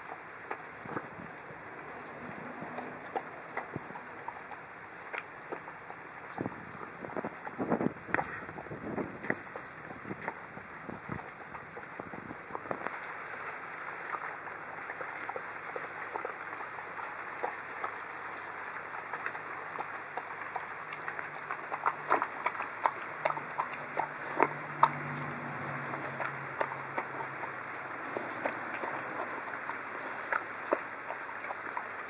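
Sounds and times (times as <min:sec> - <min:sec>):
dog chewing wetly: 0:00.0 - 0:32.0.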